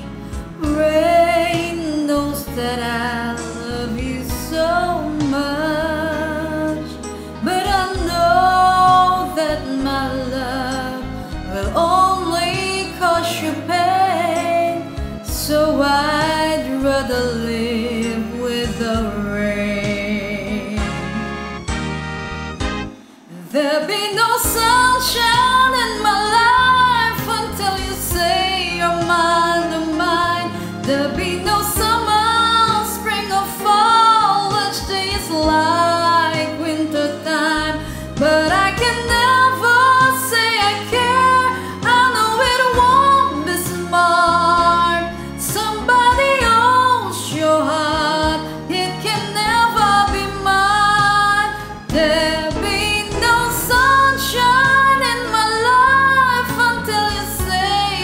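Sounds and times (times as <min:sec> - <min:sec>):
woman singing a slow ballad: 0:00.0 - 0:21.4, 0:23.1 - 0:58.0
karaoke backing track: 0:00.0 - 0:58.0.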